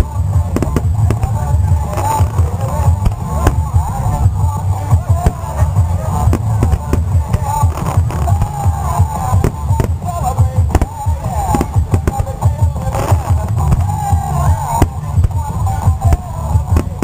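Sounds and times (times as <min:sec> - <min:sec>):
fireworks booming and crackling: 0:00.0 - 0:17.0
low rumble: 0:00.0 - 0:17.0
music playing: 0:00.0 - 0:17.0.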